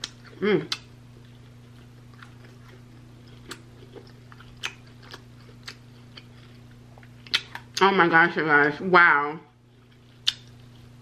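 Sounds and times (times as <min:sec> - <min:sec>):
chewing with wet mouth sounds: 0:00.0 - 0:07.8, 0:09.7 - 0:11.0
steady low hum: 0:00.0 - 0:11.0.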